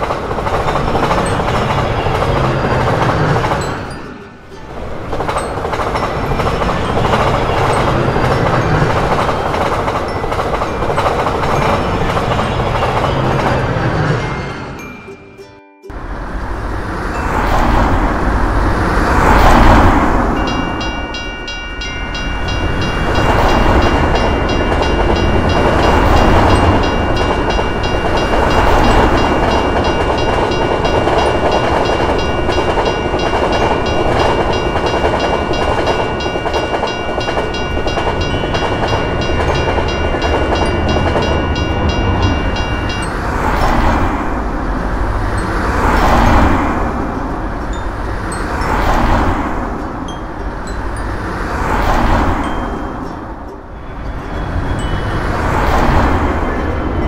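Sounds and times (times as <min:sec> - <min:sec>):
train rumbling and clattering: 0:00.0 - 0:15.1, 0:15.9 - 0:57.0
railroad crossing bell ringing: 0:00.0 - 0:57.0.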